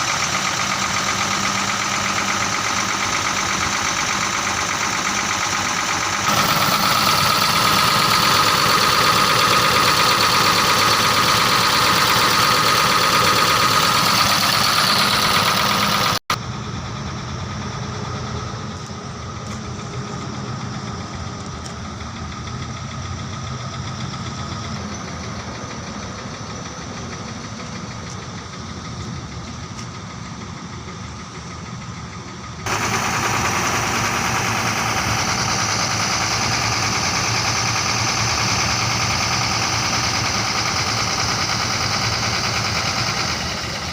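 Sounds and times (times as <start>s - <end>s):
truck diesel engine idling: 0.0s - 43.9s.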